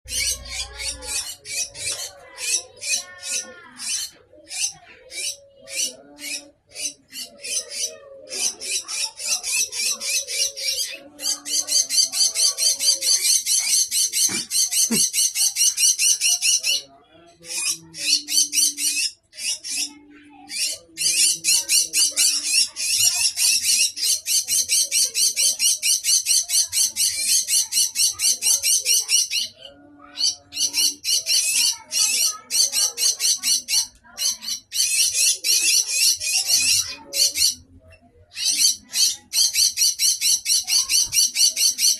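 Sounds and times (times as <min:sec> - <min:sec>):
bird chattering: 0:00.0 - 0:41.9.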